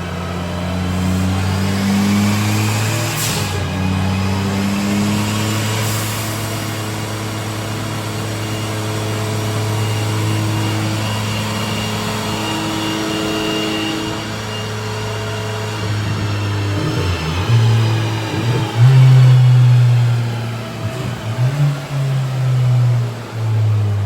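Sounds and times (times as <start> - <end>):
car engine running steadily: 0.0 - 24.0.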